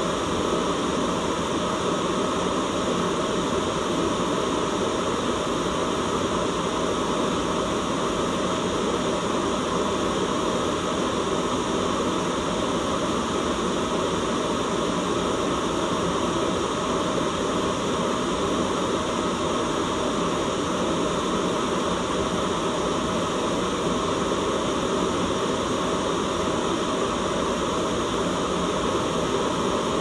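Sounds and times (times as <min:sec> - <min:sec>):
steady white noise: 0:00.0 - 0:30.0.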